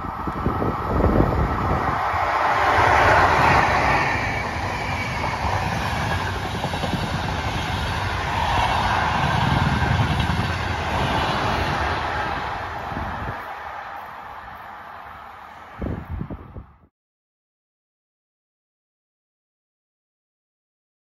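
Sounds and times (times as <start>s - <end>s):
train passing at speed: 0.0s - 16.9s.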